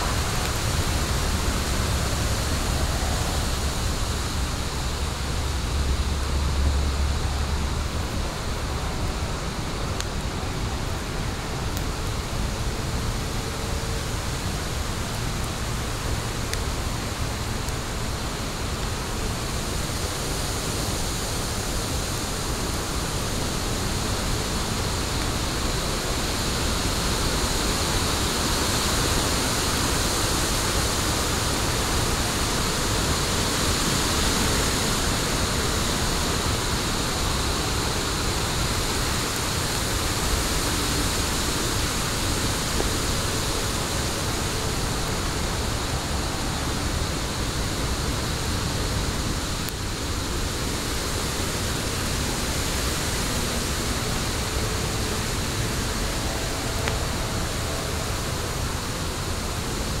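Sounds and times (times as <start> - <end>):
fire burning with rushing noise: 0.0 - 60.0.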